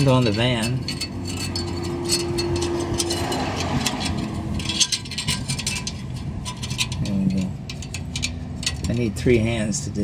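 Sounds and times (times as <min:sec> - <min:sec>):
metallic clicking and rattling: 0:00.0 - 0:09.5
low steady rumble: 0:00.0 - 0:10.0.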